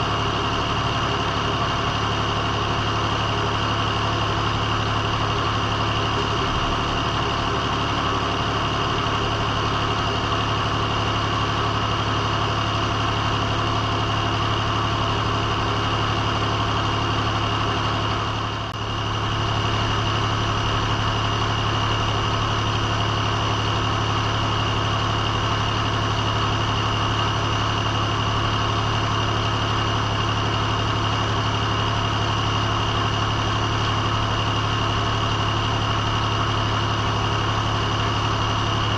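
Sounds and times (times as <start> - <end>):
engine drone: 0.0 - 38.9.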